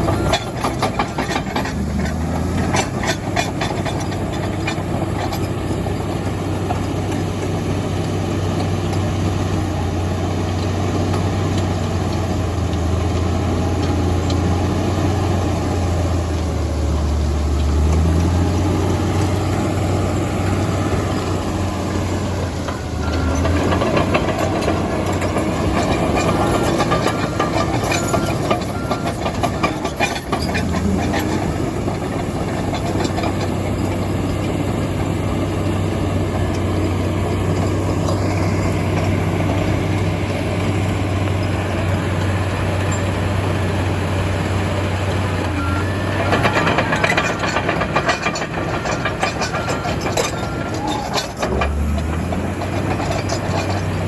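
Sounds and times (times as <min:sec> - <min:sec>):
steel tracks clanking: 0:00.0 - 0:07.3, 0:17.7 - 0:54.0
diesel engine running: 0:00.0 - 0:54.0.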